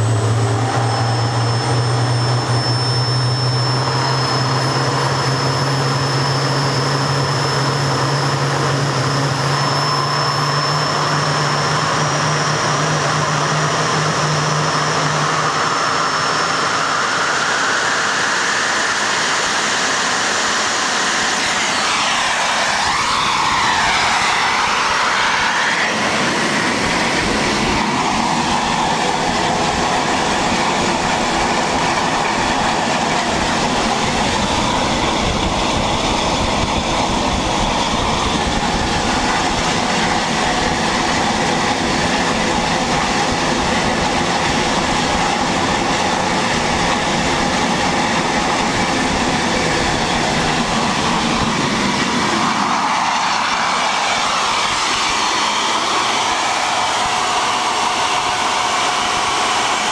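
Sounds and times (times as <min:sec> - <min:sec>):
gas turbine exhaust rush: 0:00.0 - 0:59.9
high turbine whine: 0:00.0 - 0:59.9.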